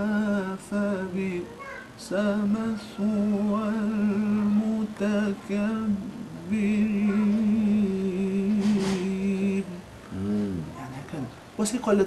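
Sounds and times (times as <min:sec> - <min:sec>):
man chanting: 0:00.0 - 0:10.8.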